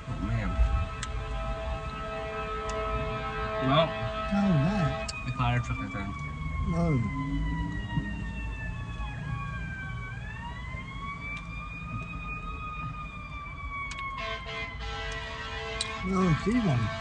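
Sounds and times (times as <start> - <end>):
emergency siren wailing: 0.0 - 17.0
siren chirps: 0.0 - 17.0.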